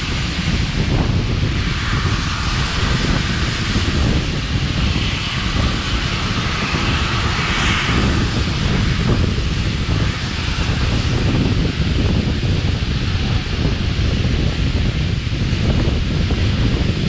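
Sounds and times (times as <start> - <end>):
train rumbling at speed: 0.0 - 17.0
wind buffeting microphone: 0.0 - 17.0.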